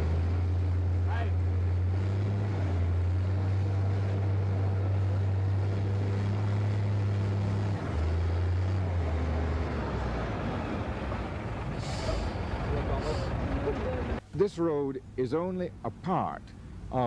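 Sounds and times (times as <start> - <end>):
loader engine running under load: 0.0 - 14.2.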